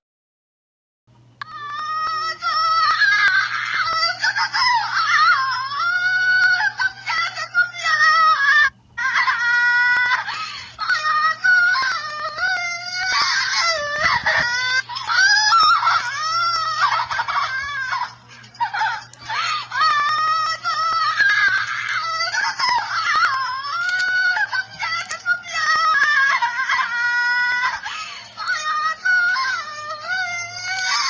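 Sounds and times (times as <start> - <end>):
woman crying and wailing: 1.4 - 31.0.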